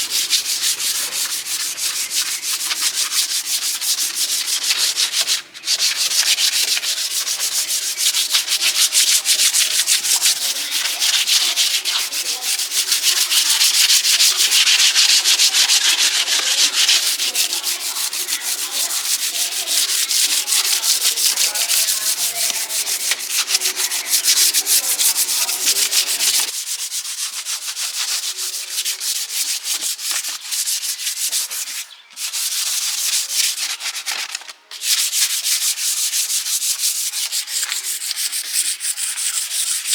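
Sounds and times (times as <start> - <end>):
sanding strokes on a surface: 0.0 - 39.9.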